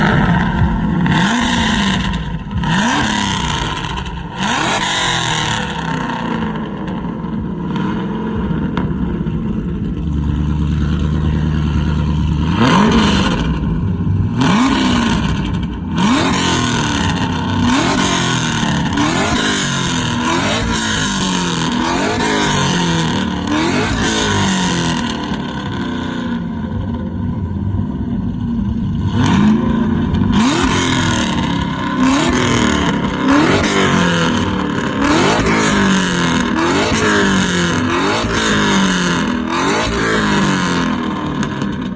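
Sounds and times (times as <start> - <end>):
engine exhaust revving and idling: 0.0 - 41.9.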